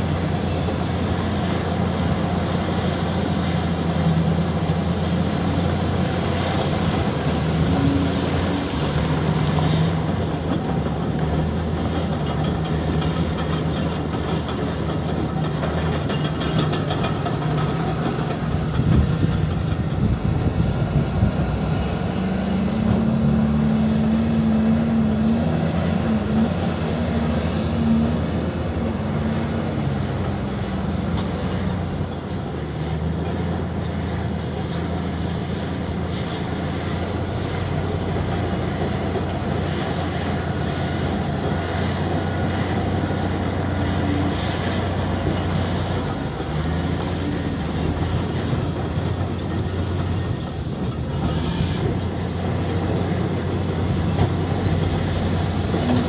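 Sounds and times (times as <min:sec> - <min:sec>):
diesel engines rumbling: 0:00.0 - 0:56.0
truck engine revving: 0:00.0 - 0:56.0.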